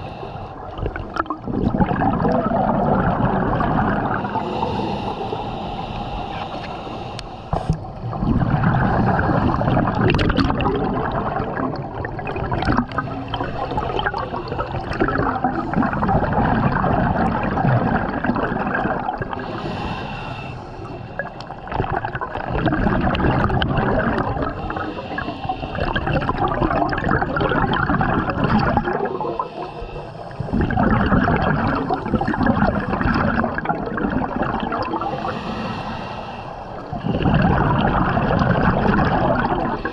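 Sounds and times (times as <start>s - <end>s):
diver exhaling gurgling bubbles: 0.0s - 20.3s, 21.2s - 36.1s, 36.7s - 39.9s.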